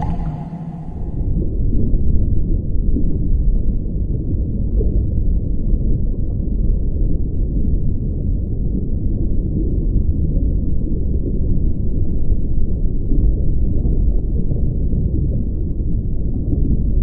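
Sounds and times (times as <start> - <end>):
muffled underwater rumble: 0.0 - 1.9, 2.5 - 17.0.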